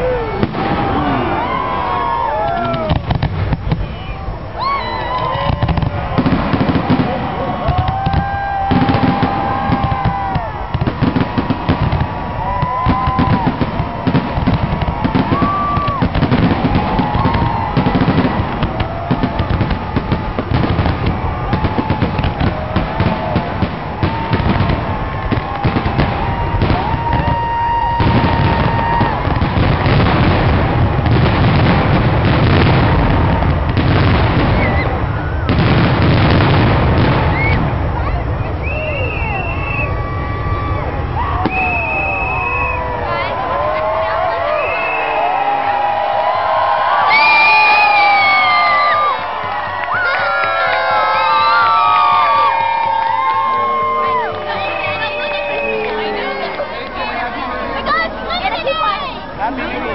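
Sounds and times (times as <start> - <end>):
firework whistles: 0.0 - 32.7, 33.7 - 43.3, 44.3 - 45.5, 46.9 - 49.2, 50.9 - 56.5
firework bangs and crackling: 0.0 - 59.9.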